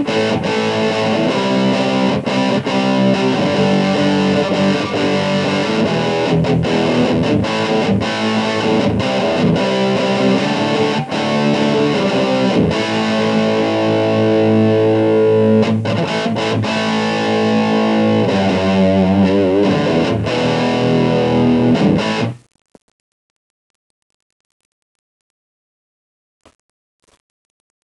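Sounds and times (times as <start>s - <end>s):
distorted electric guitar: 0.0s - 22.9s.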